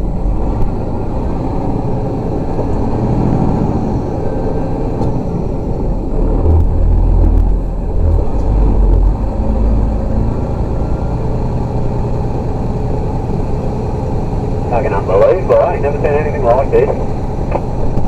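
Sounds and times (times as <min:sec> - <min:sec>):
truck engine rumble from cab: 0:00.0 - 0:18.0.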